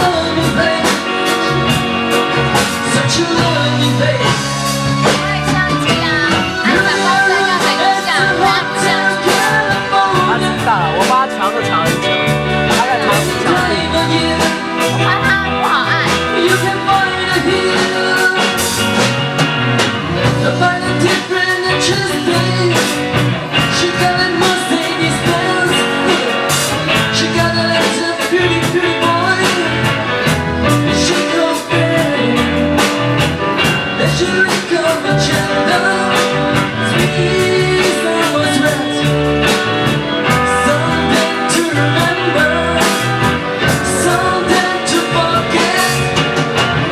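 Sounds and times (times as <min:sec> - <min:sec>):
person singing: 0:00.0 - 0:19.1, 0:20.1 - 0:46.9
drums: 0:00.0 - 0:46.9
electric guitar: 0:00.0 - 0:46.9.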